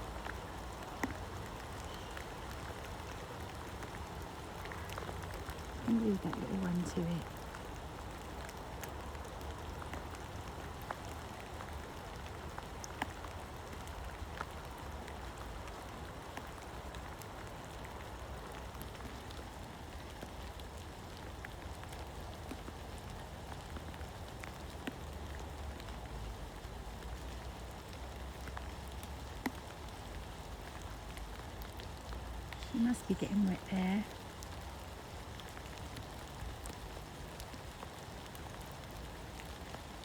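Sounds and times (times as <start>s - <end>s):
single raindrops ticking: 0.0s - 40.0s.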